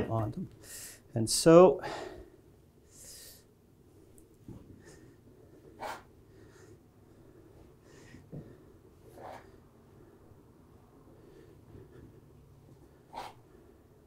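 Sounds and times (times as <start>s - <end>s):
man breathing and sniffing: 0.6s - 1.1s, 1.8s - 3.6s, 4.4s - 14.0s.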